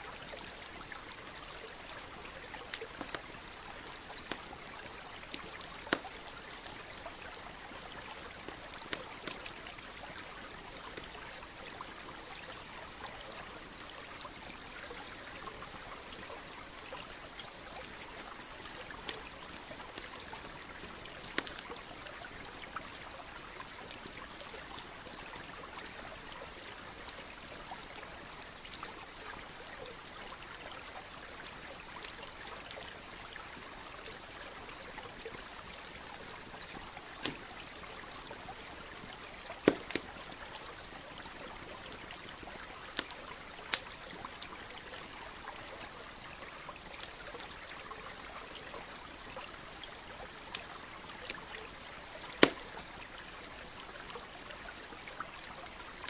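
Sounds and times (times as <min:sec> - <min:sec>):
campfire crackling and popping: 0:00.0 - 0:56.0
stream trickling: 0:00.0 - 0:56.0.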